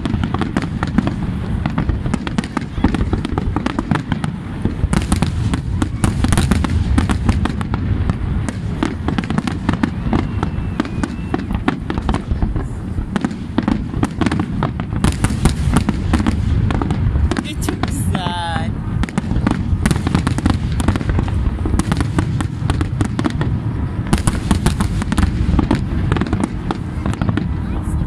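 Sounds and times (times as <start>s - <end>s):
fireworks bursts and crackling bangs: 0.0s - 28.0s.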